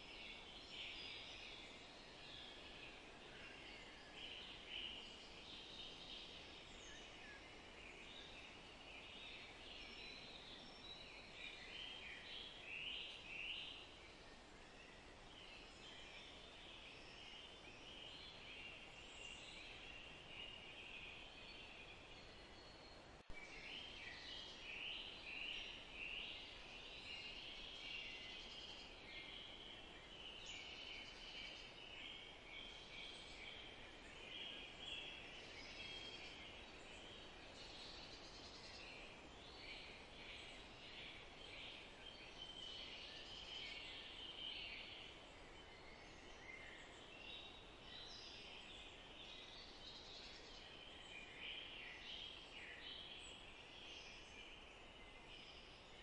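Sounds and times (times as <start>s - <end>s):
soft background hiss: 0.0s - 56.0s
songbirds chirping: 0.0s - 56.0s.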